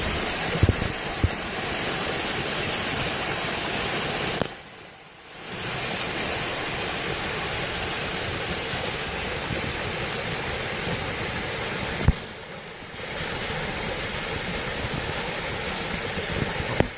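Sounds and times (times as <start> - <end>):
water falling into a pool: 0.0 - 16.9.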